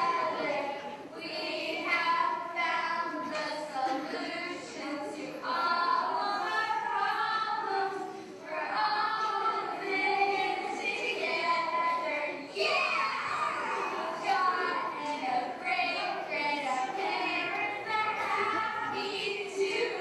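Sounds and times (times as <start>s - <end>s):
children singing together: 0.0s - 20.0s.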